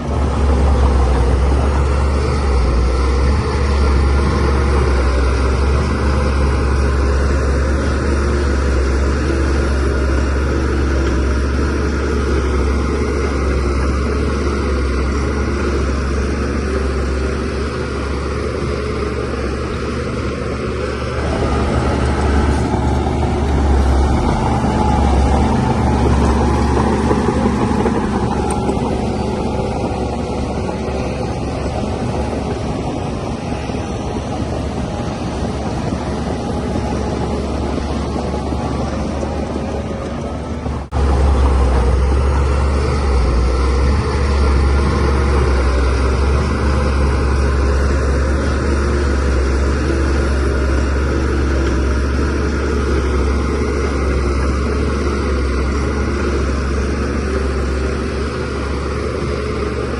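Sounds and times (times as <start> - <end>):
bulldozer diesel engine humming: 0.0 - 59.9.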